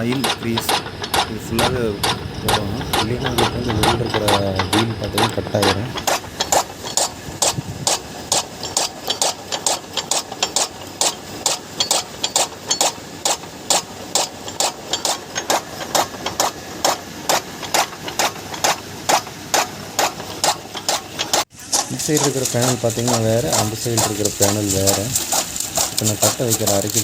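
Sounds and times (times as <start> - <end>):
cutter blades knocking: 0.0 - 27.0
motor hum: 0.0 - 27.0.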